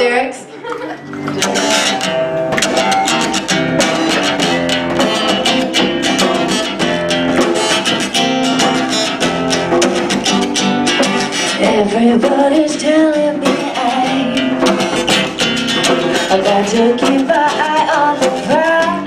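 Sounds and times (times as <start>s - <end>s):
guitar strumming: 0.0s - 19.0s.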